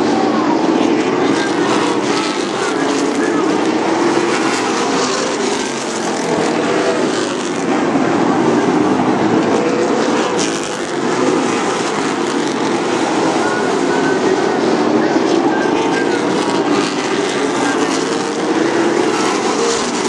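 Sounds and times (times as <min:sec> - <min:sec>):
race car engines droning: 0:00.0 - 0:20.0.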